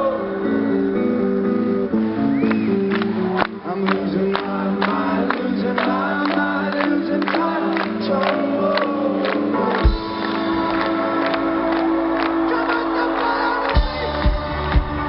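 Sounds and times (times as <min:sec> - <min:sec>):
crowd singing along: 0:00.0 - 0:01.3, 0:03.6 - 0:15.0
person singing: 0:00.0 - 0:01.9, 0:03.2 - 0:15.0
indie rock band playing: 0:00.0 - 0:15.0.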